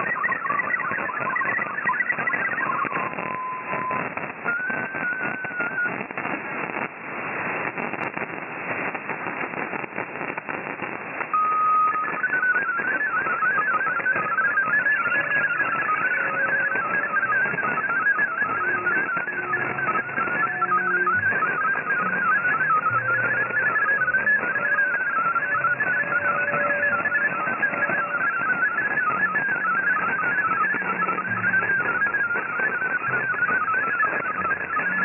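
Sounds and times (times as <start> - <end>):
warbling digital data tones: 0.0 - 6.3, 9.8 - 35.0
radio static crackling: 0.0 - 35.0
steady radio tone: 0.0 - 35.0.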